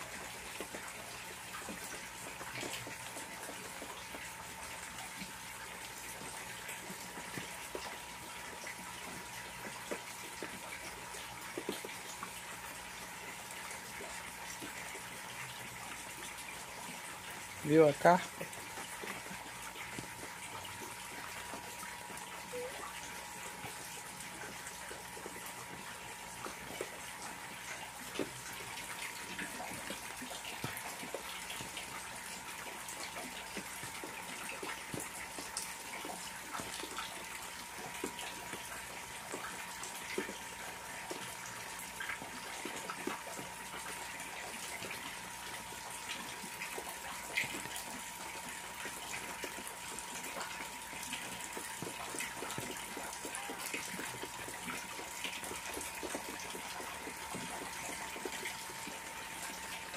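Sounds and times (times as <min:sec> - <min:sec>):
rain falling on pond: 0:00.0 - 0:59.9.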